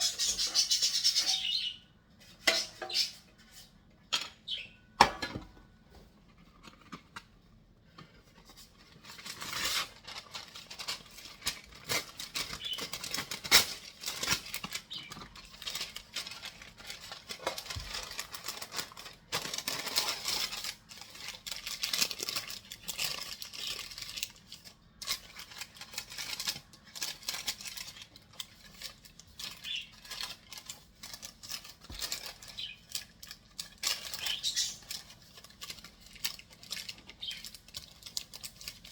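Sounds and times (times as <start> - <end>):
food scraping and rustling: 5.9 - 38.9.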